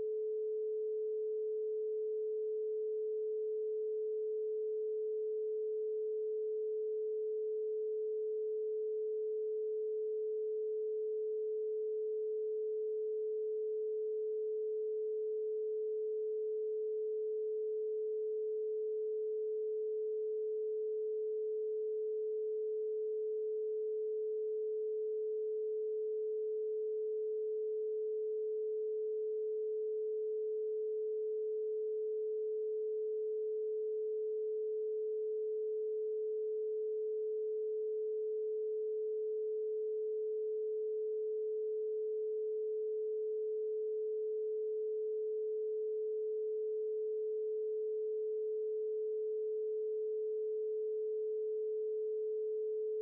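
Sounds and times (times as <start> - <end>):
steady sine tone: 0.0 - 53.0.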